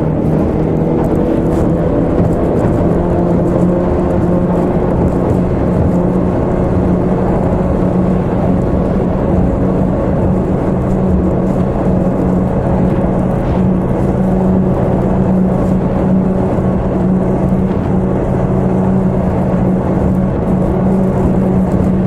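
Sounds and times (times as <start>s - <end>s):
constant rushing noise: 0.0s - 22.0s
outboard motor running: 0.0s - 22.0s.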